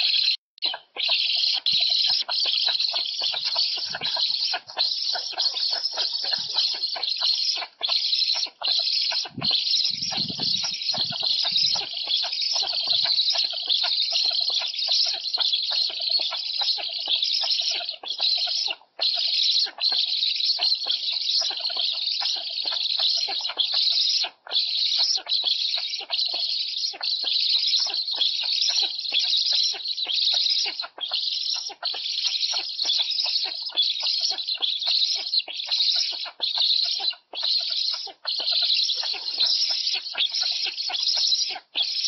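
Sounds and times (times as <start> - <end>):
young storks begging calls: 0.0 - 42.0.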